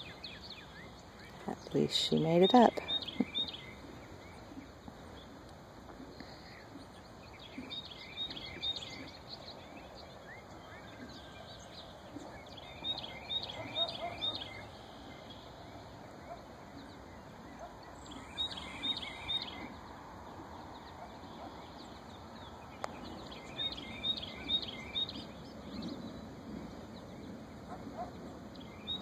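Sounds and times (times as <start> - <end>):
outdoor background noise: 0.0 - 29.0
songbird singing: 0.0 - 29.0.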